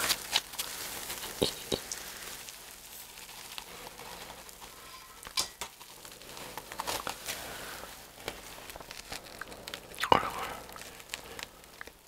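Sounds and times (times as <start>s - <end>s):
bread crust crackling and tearing: 0.0s - 12.0s.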